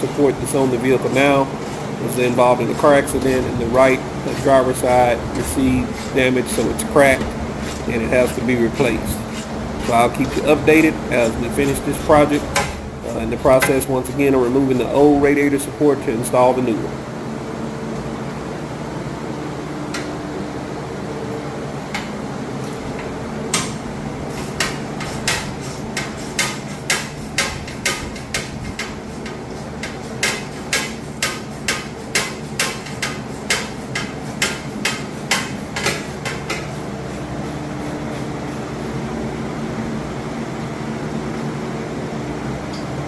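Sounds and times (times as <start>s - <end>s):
steady background hum: 0.0s - 43.0s.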